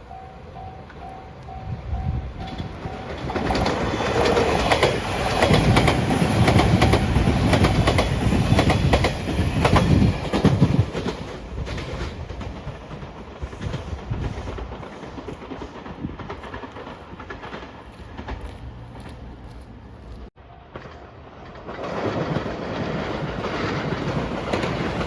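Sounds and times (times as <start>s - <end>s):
train wheels clattering: 2.4s - 19.7s, 20.7s - 25.0s.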